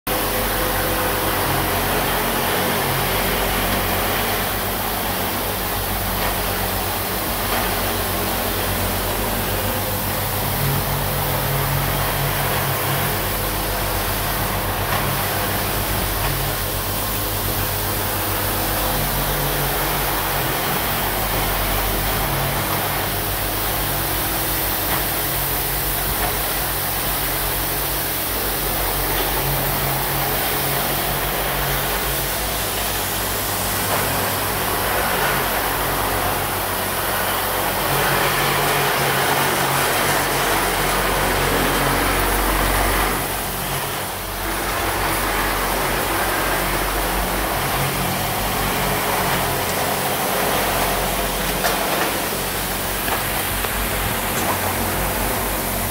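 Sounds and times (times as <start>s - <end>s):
machine mechanical drone: 0.1s - 55.9s.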